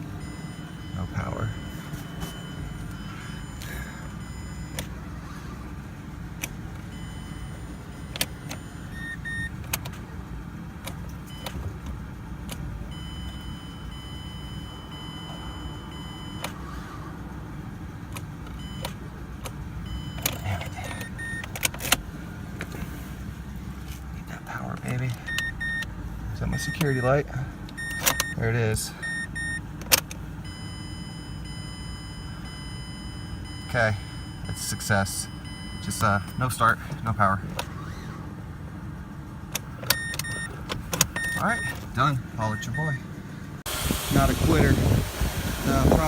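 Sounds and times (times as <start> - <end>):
vehicle idling rumble: 0.0 - 46.0.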